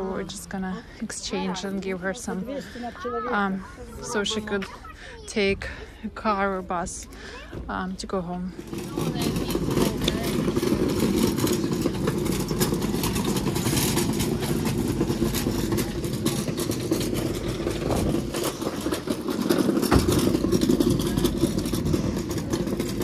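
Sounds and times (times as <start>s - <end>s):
trolley wheels rattling over bricks: 0.0s - 23.0s.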